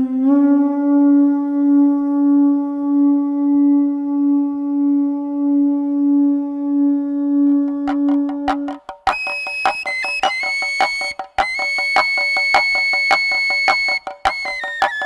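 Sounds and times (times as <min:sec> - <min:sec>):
long held musical note: 0:00.0 - 0:15.0.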